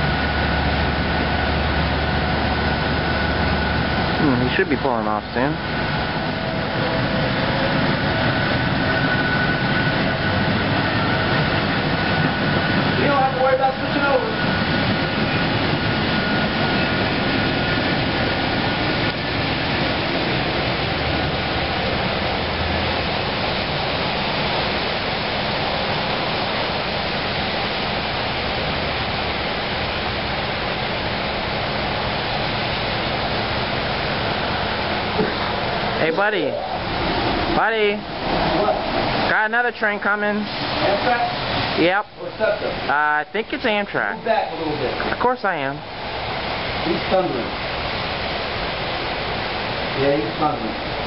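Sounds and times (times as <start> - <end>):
steady rain hiss: 0.0 - 51.0
train humming at platform: 0.0 - 51.0.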